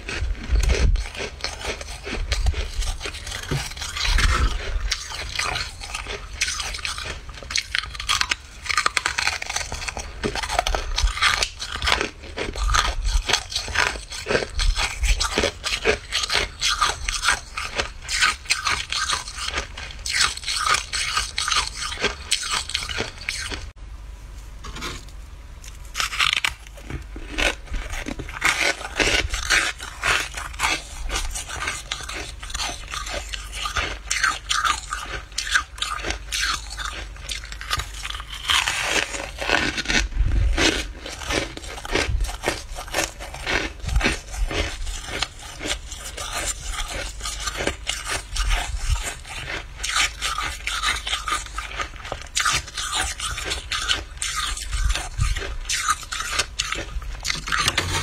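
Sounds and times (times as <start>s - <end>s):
frost crunching and scraping: 0.0s - 58.0s.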